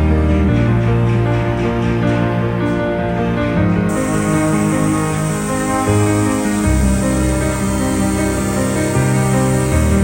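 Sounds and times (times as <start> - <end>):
sustained instrumental chords: 0.0 - 10.0.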